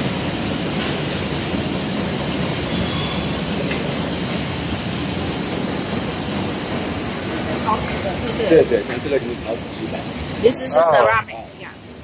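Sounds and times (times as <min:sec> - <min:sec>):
factory machinery noise: 0:00.0 - 0:12.0.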